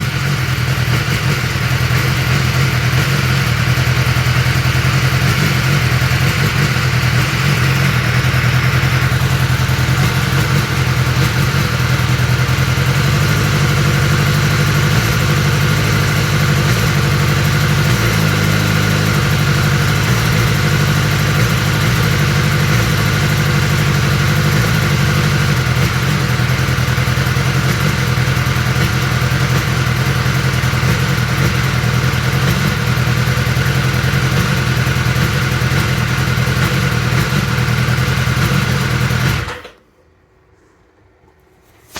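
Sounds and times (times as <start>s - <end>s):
motorcycle engine idling: 0.0s - 39.8s.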